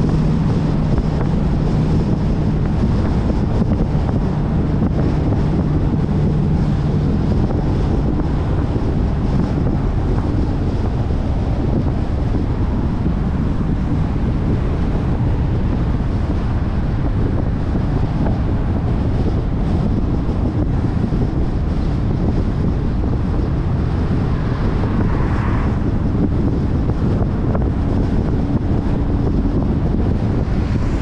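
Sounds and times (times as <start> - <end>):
car engine cruising: 0.0 - 31.0
wind noise on microphone: 0.0 - 31.0.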